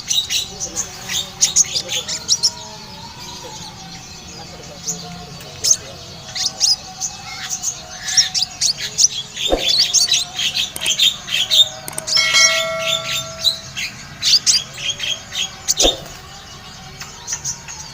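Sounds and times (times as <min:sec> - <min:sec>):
songbird chirping: 0:00.0 - 0:17.9.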